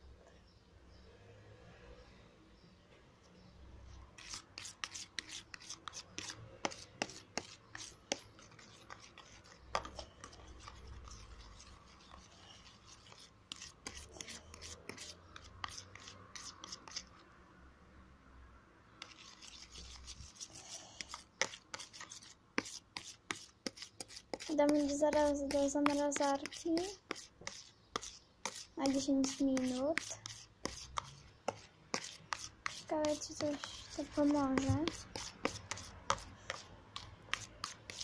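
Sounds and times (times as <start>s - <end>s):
teaspoon stirring thick mixture: 3.9s - 17.3s, 19.0s - 38.0s
spoon scraping plastic container: 4.2s - 17.2s, 19.0s - 38.0s.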